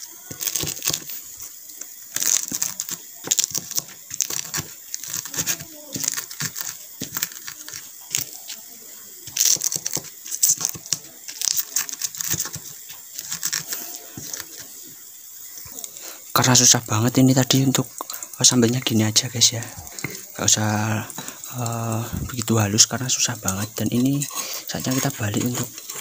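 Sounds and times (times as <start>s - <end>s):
pestle crushing in wooden mortar: 0.0s - 8.6s, 9.2s - 26.0s.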